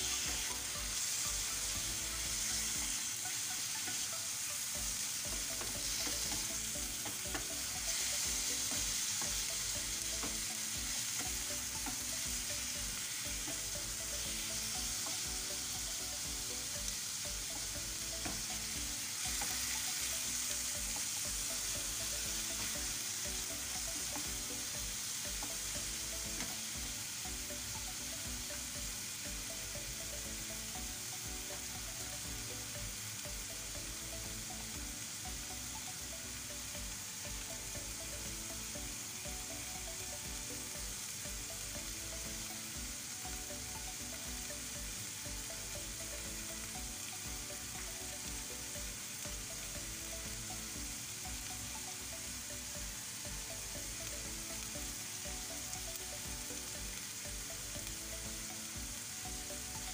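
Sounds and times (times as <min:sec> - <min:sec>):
chicken and onion sizzling in pan: 0:00.0 - 0:59.9.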